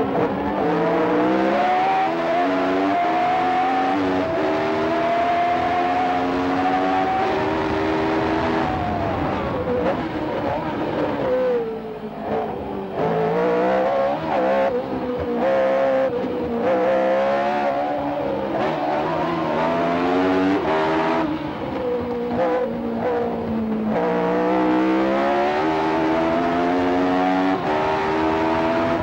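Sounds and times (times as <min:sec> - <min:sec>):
racing car engine revving: 0:00.0 - 0:29.0.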